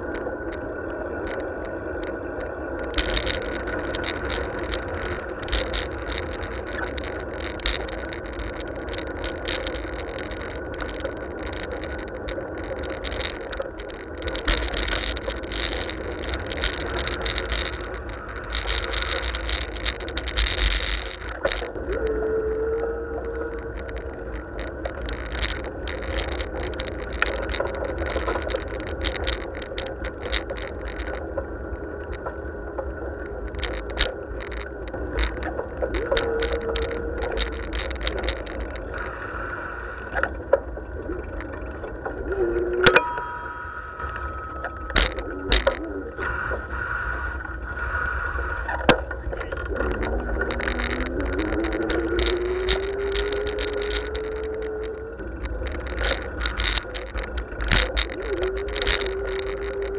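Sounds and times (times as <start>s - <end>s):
bike and camera mount rattling: 0.0s - 39.3s, 40.0s - 59.9s
road rumble: 0.0s - 59.9s
wind: 0.0s - 59.9s.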